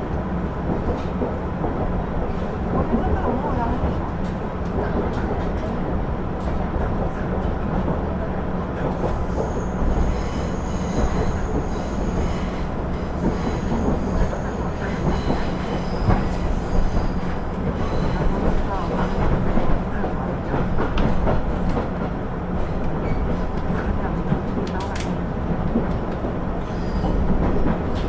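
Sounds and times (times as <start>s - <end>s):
railcar engine and wheels rumbling: 0.0s - 28.0s.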